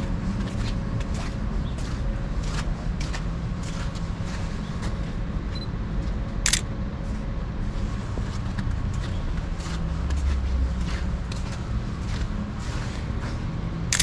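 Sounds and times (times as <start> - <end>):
faint footsteps: 0.0 - 14.0
low rumble of city traffic: 0.0 - 14.0.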